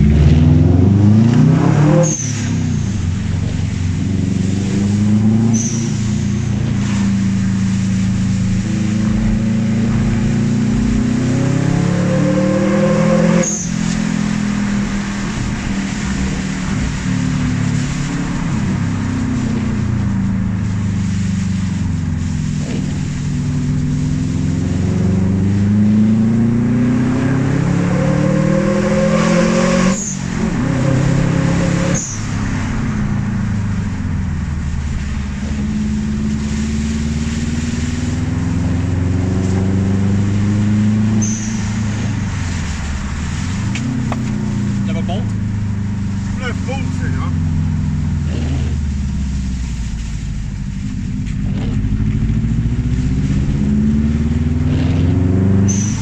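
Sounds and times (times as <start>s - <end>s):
car engine running through exhaust: 0.0s - 56.0s.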